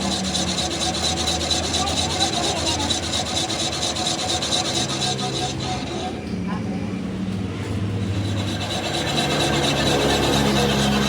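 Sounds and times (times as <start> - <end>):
rapid rasping scraping: 0.0 - 6.2, 7.9 - 11.0.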